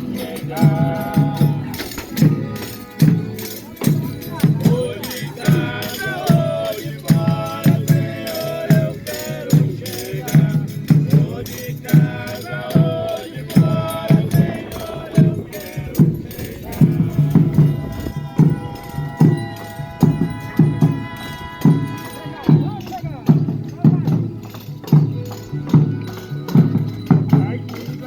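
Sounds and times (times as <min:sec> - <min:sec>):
drum beat: 0:00.0 - 0:28.0
tambourine or rattle shaking: 0:00.0 - 0:28.0
voices singing: 0:00.0 - 0:28.0.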